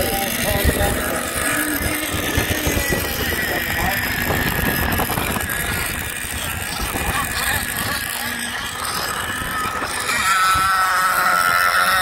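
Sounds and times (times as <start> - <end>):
distant whine of model boats: 0.0 - 12.0
wind buffeting microphone: 0.0 - 12.0.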